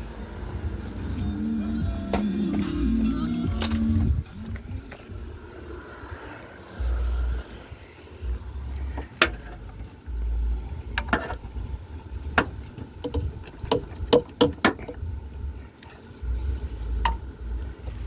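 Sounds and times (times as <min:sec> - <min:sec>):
low rumble: 0:00.0 - 0:14.1, 0:14.9 - 0:18.0.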